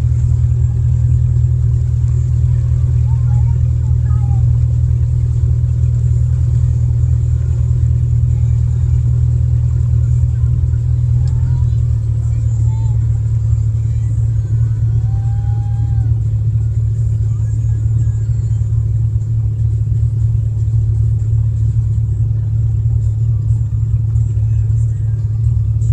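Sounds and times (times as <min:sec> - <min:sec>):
motorboat engine droning: 0:00.0 - 0:25.9.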